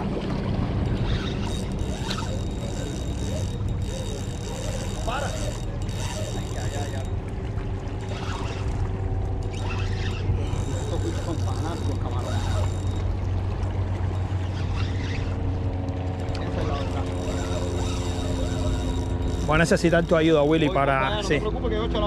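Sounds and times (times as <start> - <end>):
low engine-like hum: 0.0 - 22.0
fishing reel spinning: 1.0 - 7.2, 8.0 - 8.8, 9.4 - 13.3, 14.2 - 21.4.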